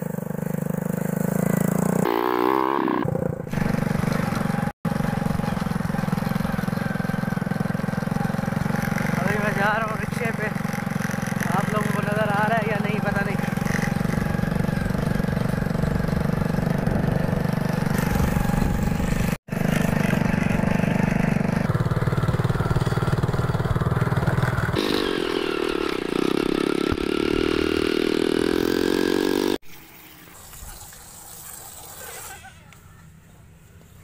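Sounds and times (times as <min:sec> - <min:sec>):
motor rickshaw engine running: 0:00.0 - 0:29.6.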